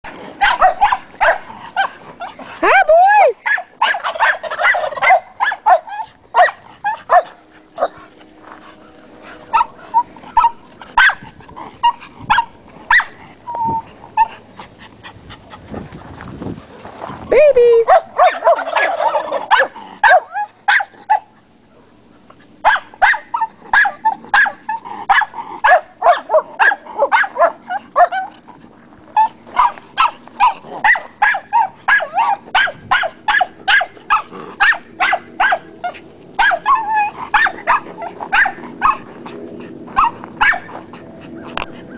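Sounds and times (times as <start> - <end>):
dogs barking and yelping: 0.1 - 15.9, 17.8 - 41.9.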